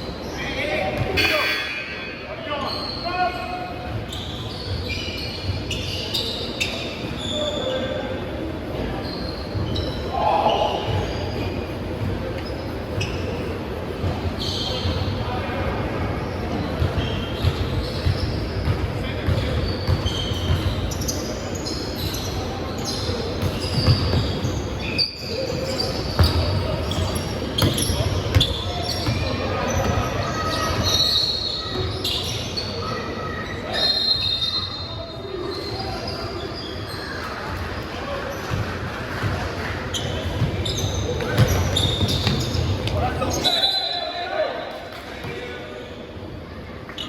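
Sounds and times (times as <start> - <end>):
players' voices in echoing hall: 0.0 - 47.0
shoes squeaking on court: 2.4 - 15.2, 16.2 - 37.8, 38.4 - 44.0.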